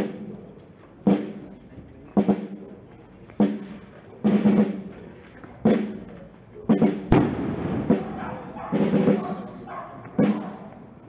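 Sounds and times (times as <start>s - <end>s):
drums beating a slow march: 0.0s - 11.0s.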